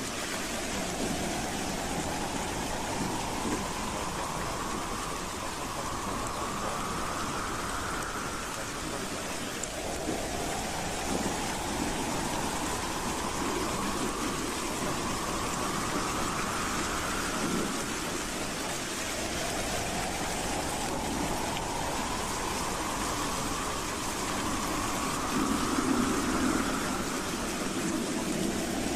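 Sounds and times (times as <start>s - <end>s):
howling wind: 0.0s - 28.9s.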